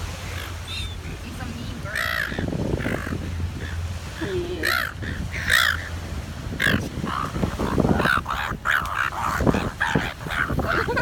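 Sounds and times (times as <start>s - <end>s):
seagulls squabbling: 0.2s - 11.0s.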